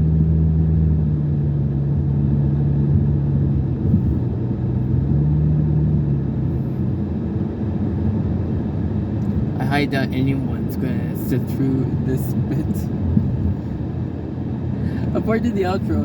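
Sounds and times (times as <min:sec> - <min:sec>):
car engine hum: 0:00.0 - 0:16.0
road noise rumble: 0:00.0 - 0:16.0.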